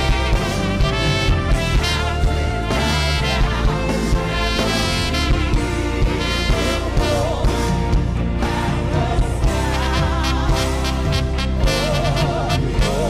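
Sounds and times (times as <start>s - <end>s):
live band playing upbeat music: 0.0s - 13.0s.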